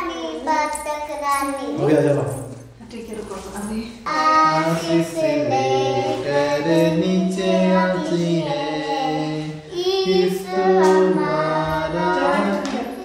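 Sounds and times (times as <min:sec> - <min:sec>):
girl singing: 0:00.0 - 0:01.9, 0:04.1 - 0:13.0.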